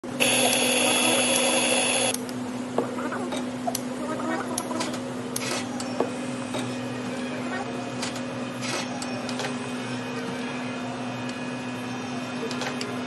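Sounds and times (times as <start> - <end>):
mechanical whirr with high whine: 0.0 - 2.6, 4.7 - 13.0.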